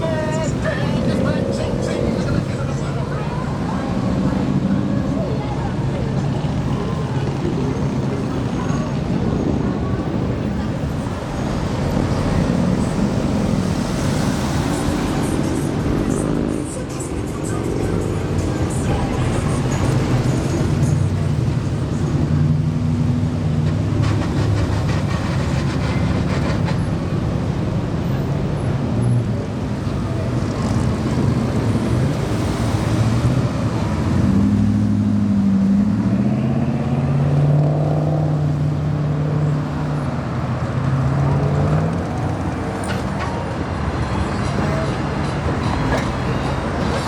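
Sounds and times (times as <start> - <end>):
cars driving past: 0.0 - 47.0.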